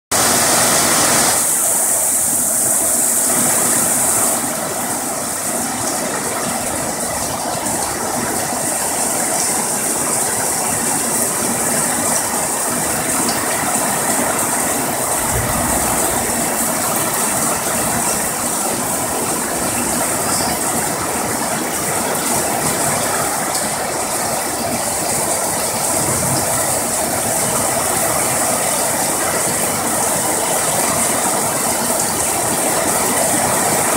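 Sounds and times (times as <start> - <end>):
heavy rain pouring: 0.1 - 33.9
water splashing off roof: 0.2 - 33.9.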